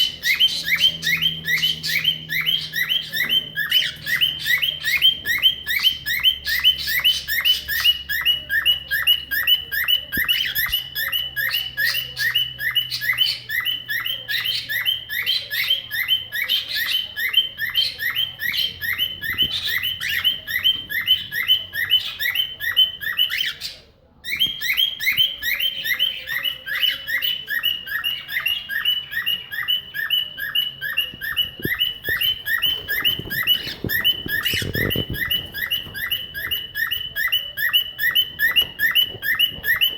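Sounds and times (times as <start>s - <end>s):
cockatiel chirping like car alarm: 0.0s - 39.9s.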